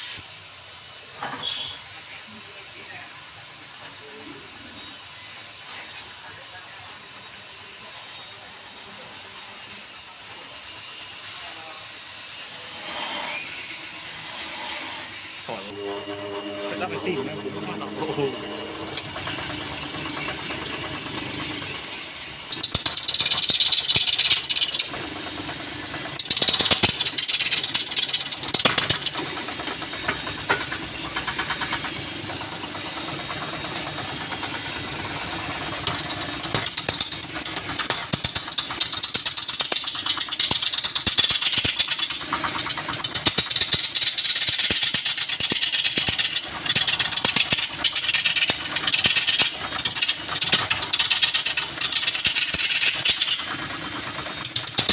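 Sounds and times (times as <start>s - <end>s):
wood lathe turning: 7.3s - 54.9s
tool scraping spinning wood: 9.1s - 54.9s.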